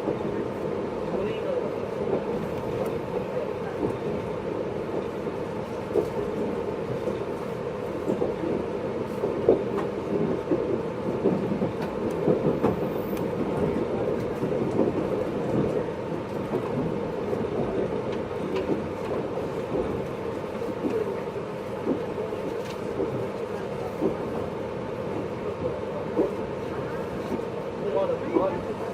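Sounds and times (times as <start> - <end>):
train wheels rumbling on track: 0.0 - 28.9.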